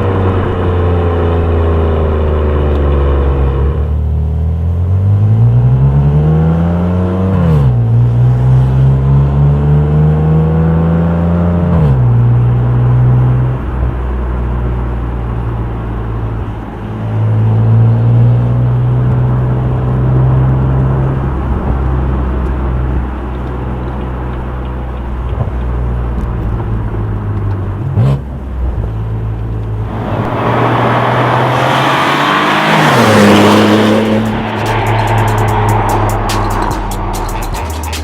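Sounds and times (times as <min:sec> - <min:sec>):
car exhaust drone and acceleration: 0:00.0 - 0:38.0.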